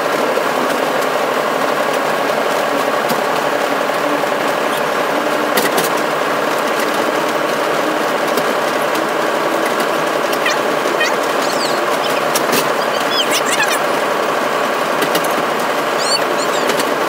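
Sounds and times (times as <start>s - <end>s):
locomotive running noise: 0.0s - 17.0s.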